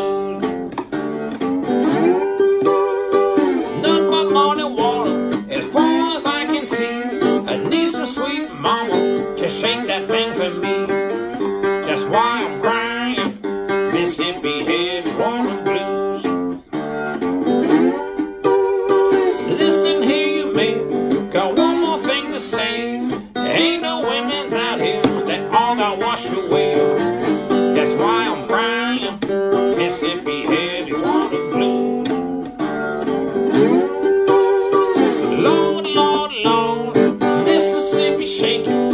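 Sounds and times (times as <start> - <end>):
slide blues guitar: 0.0 - 38.9.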